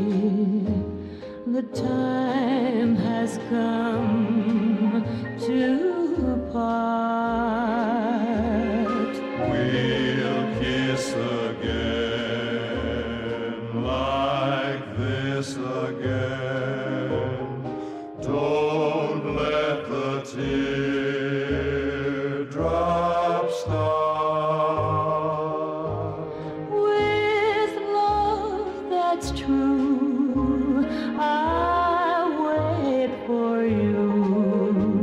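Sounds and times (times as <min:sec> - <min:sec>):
person singing: 0:01.5 - 0:35.0.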